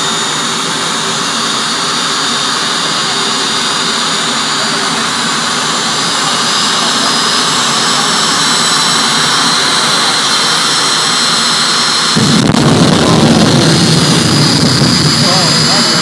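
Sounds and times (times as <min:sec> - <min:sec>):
afterburner deep rumble: 0:00.0 - 0:16.0
jet turbine whine: 0:00.0 - 0:16.0.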